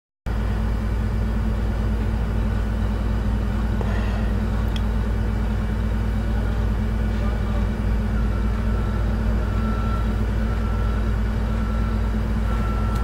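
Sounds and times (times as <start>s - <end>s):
low rumble with faint hum: 0.3s - 13.0s.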